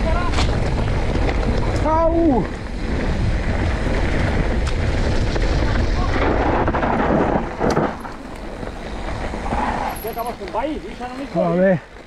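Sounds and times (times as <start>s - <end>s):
bike rolling over rough trail: 0.0s - 12.0s
wind buffeting microphone: 0.0s - 12.0s.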